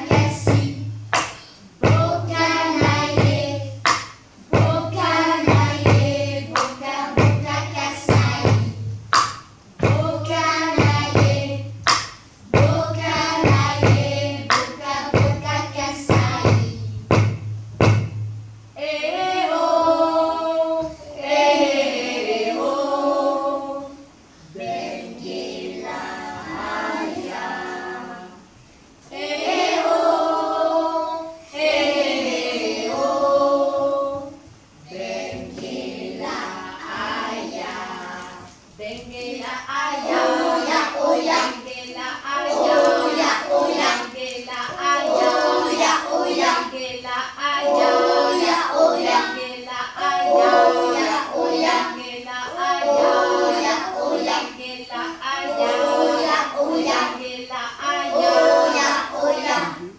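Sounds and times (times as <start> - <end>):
children singing unaccompanied: 0.0 - 17.3, 18.8 - 59.9.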